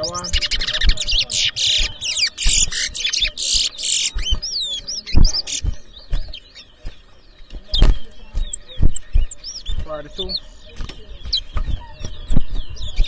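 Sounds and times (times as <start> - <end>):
finches singing: 0.0 - 13.0.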